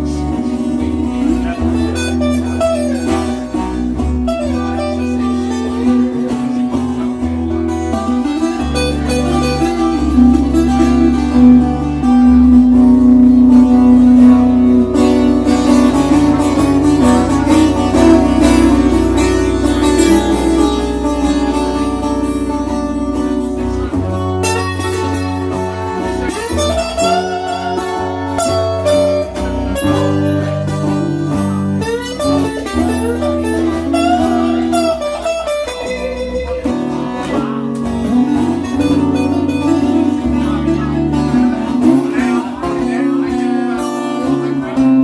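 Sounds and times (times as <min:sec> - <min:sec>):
bass line: 0:00.0 - 0:45.0
sustained guitar notes: 0:00.0 - 0:45.0.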